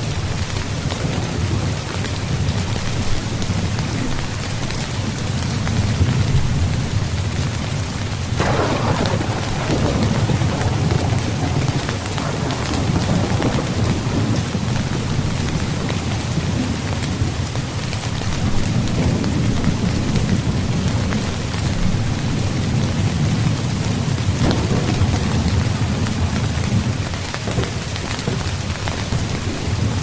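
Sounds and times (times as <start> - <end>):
heavy rain on tent fabric: 0.0 - 30.0.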